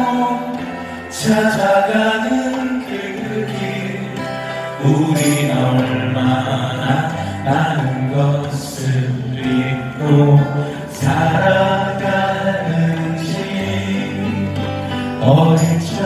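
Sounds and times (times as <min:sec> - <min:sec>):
acoustic guitars: 0:00.0 - 0:16.0
keyboard: 0:00.0 - 0:16.0
melody of long held notes: 0:00.0 - 0:16.0.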